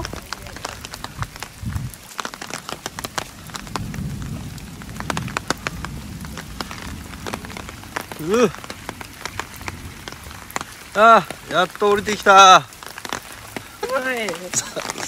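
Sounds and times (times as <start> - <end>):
heavy rain falling: 0.0 - 15.0
raindrop taps near microphone: 0.0 - 15.0.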